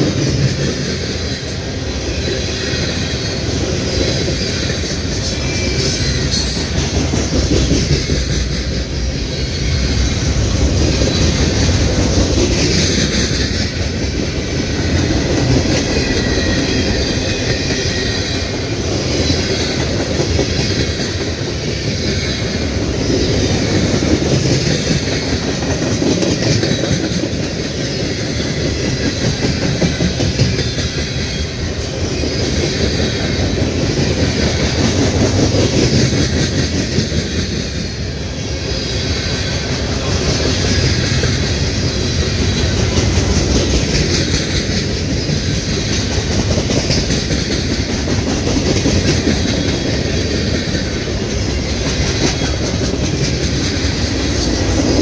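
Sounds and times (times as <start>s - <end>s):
clickety-clack over rail joints: 0.0s - 55.0s
freight train wheels rumbling: 0.0s - 55.0s.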